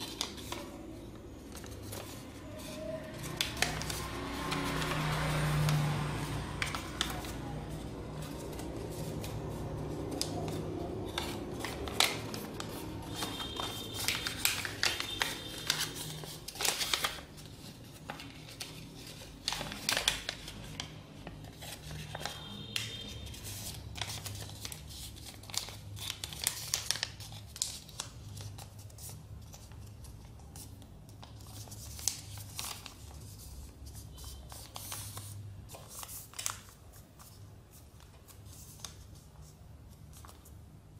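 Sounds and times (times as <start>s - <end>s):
paper being folded and creased: 0.0s - 40.6s.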